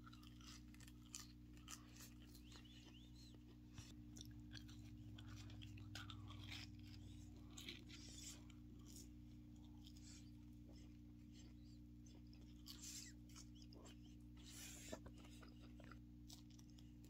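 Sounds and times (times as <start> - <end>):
chewing and mouth clicks: 0.0 - 17.0
steady low hum: 0.0 - 17.0.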